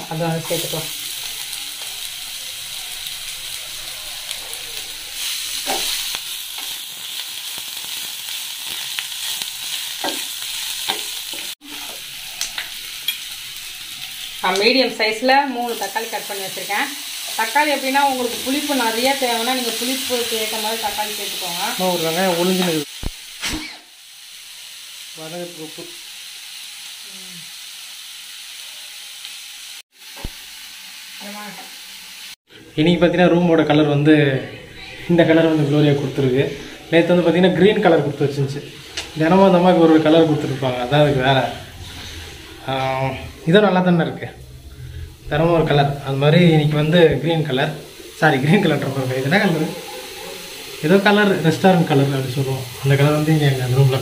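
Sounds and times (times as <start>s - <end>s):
onions sizzling in hot oil: 0.0s - 32.4s, 35.0s - 54.0s.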